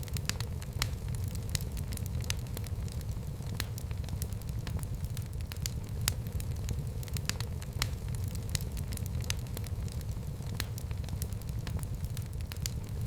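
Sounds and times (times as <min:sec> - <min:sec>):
fire rumbling in fireplace: 0:00.0 - 0:13.0
wood fire crackles and pops: 0:00.0 - 0:13.0.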